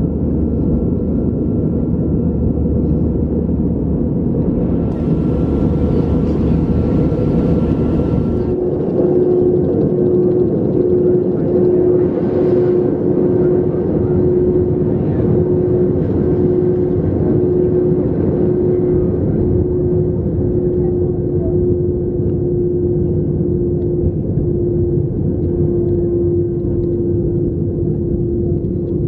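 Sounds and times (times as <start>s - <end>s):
airplane cabin engine rumble: 0.0s - 29.0s
constant droning tone: 0.0s - 29.0s.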